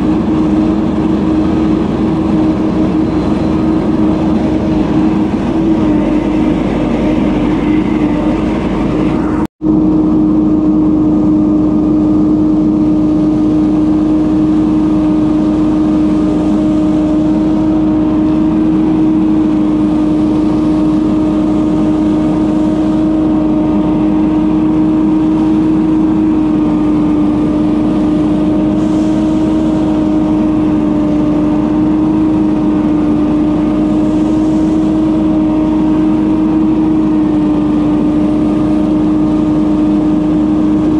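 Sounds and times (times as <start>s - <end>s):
leaf blower engine running: 0.0s - 40.9s.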